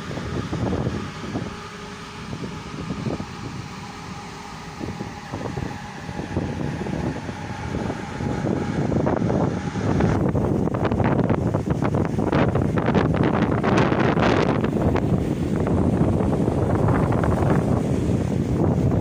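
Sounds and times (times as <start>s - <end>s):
ferry mechanical hum: 0.0s - 19.0s
wind buffeting microphone: 0.0s - 19.0s.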